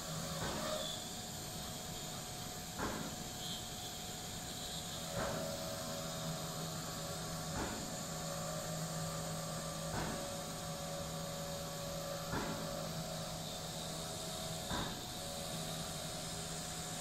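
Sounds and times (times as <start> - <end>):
cnc machine hum and hiss: 0.0 - 17.0.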